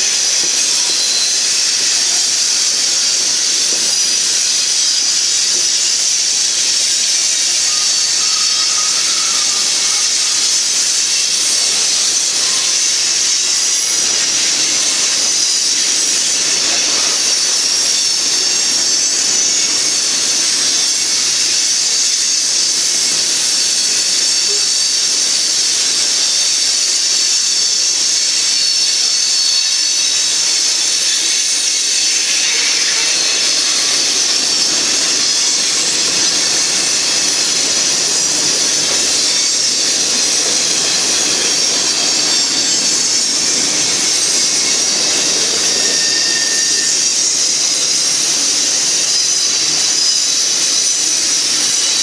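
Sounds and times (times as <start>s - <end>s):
freight train wheels on rail: 0.0s - 52.0s.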